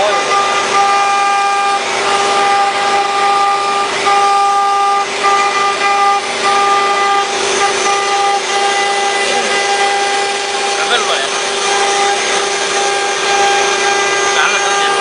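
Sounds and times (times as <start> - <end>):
engraving machine whine: 0.0 - 15.0
higher motor tones: 0.0 - 15.0.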